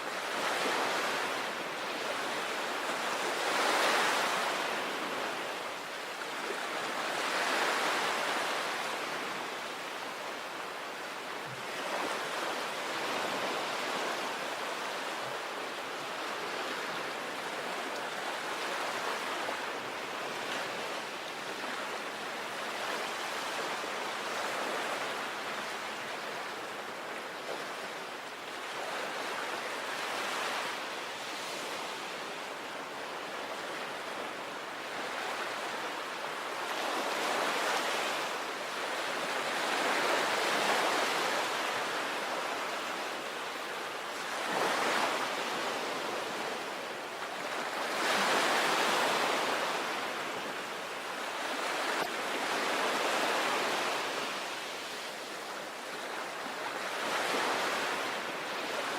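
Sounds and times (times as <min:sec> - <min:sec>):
sea waves breaking on a beach: 0:00.0 - 0:58.9.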